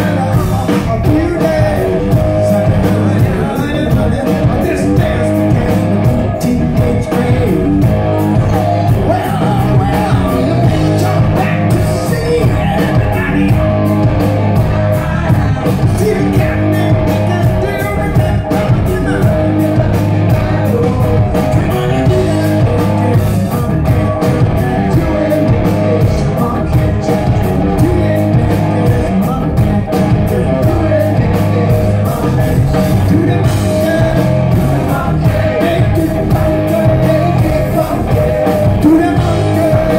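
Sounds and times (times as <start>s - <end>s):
drums: 0.0s - 39.9s
electric bass: 0.0s - 39.9s
electric guitars: 0.0s - 39.9s
man singing lead: 0.0s - 39.9s.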